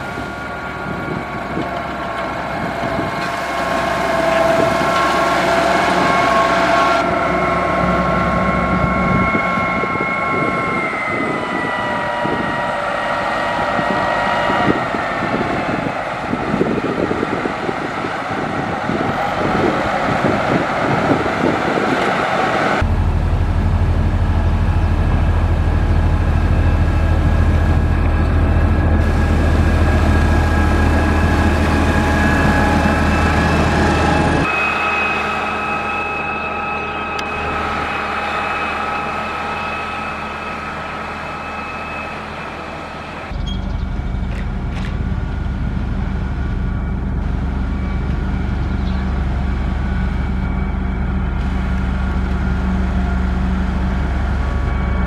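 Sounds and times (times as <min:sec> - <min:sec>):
heavy machinery engine drone: 0:00.0 - 0:55.0
machinery whine: 0:00.0 - 0:55.0.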